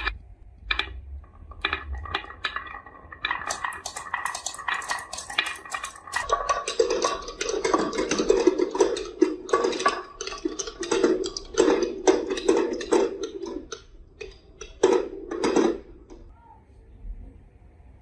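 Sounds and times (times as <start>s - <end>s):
marbles rolling on wooden run: 0.0s - 16.3s.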